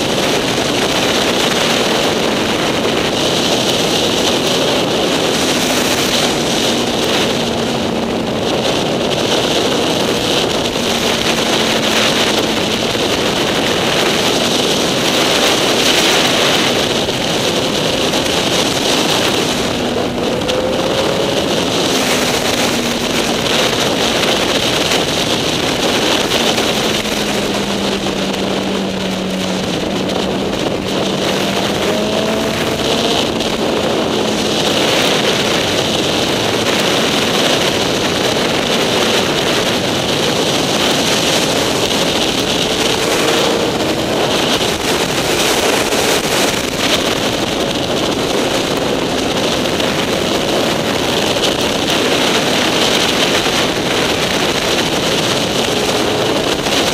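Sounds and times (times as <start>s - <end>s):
motorcycle engine running: 0.0s - 56.9s
wind rush on microphone: 0.0s - 56.9s.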